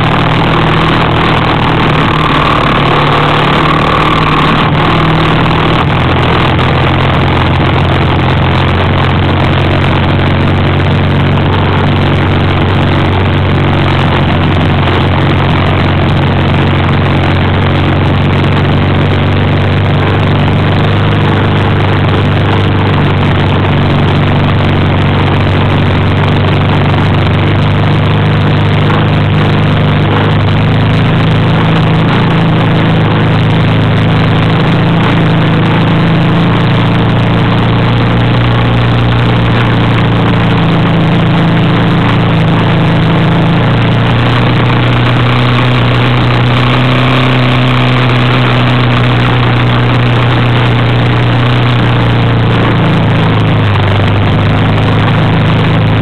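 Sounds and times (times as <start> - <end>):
road and wind noise: 0.0 - 56.0
vehicle engine running: 0.0 - 56.0.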